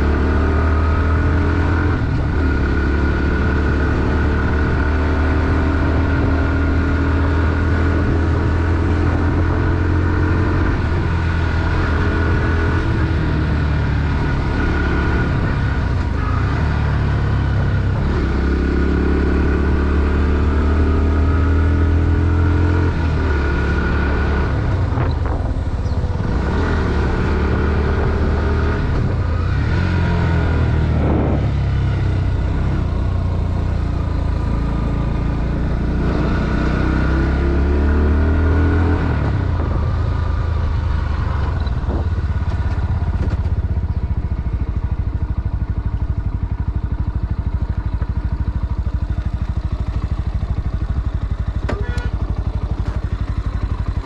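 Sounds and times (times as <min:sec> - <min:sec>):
motorcycle engine running under load: 0:00.0 - 0:54.0.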